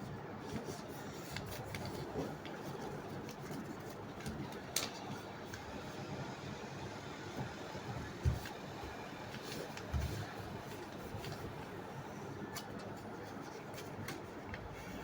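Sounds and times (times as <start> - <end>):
paper rustling and crinkling: 0.1 - 5.8, 7.4 - 15.0.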